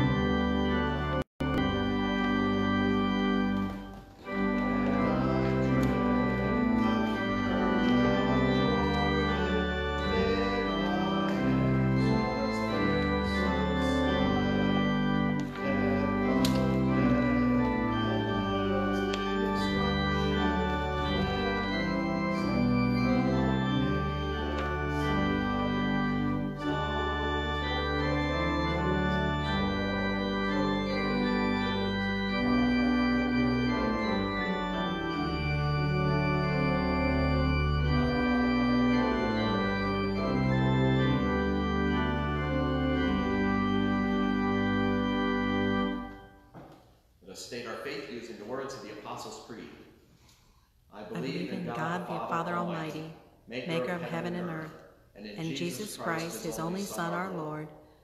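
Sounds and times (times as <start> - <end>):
organ playing sustained chords: 0.0 - 46.5, 51.0 - 58.0.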